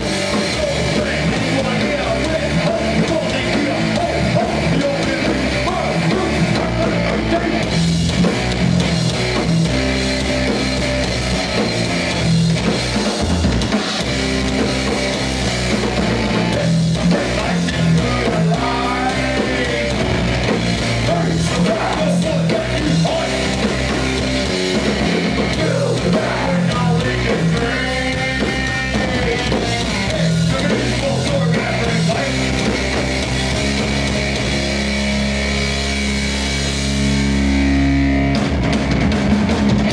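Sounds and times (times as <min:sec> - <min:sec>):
hardcore band playing live: 0:00.0 - 0:39.9.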